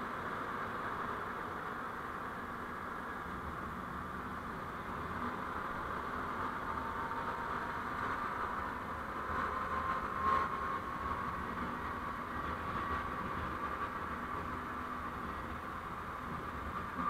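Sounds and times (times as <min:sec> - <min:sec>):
road and vehicle running noise: 0:00.0 - 0:17.0.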